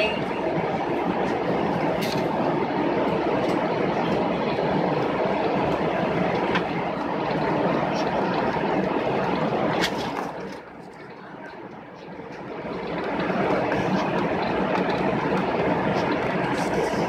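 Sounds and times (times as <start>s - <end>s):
airliner engines and wheels rumbling: 0.0s - 17.0s.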